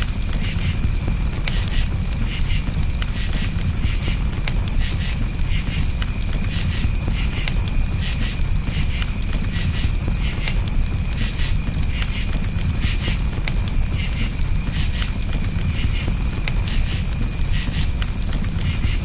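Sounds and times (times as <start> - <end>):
campfire crackling and popping: 0.0 - 19.0
crickets chirping: 0.0 - 19.0
low rumble of burning: 0.0 - 19.0.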